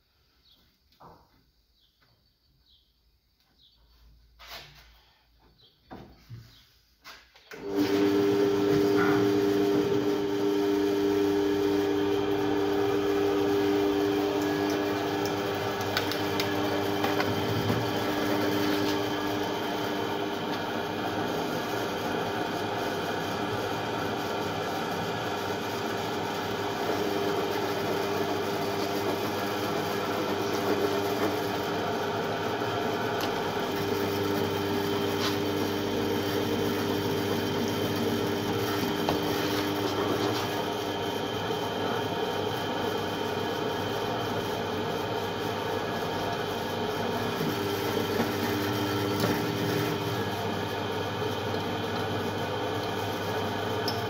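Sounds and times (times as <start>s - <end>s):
drill press motor humming: 7.5s - 54.0s.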